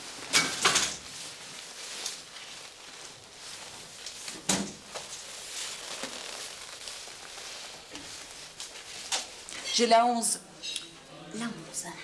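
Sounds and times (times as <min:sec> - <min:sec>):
faint rustling: 0:00.0 - 0:09.9.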